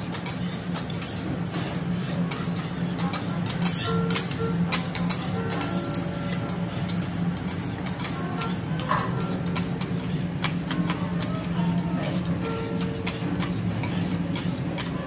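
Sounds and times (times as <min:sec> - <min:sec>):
metal spatulas scraping griddle: 0:00.0 - 0:15.0.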